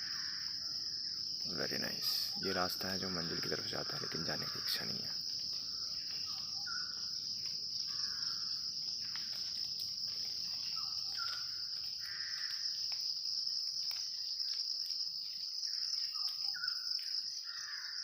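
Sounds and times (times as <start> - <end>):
crickets chorus: 0.0 - 18.0.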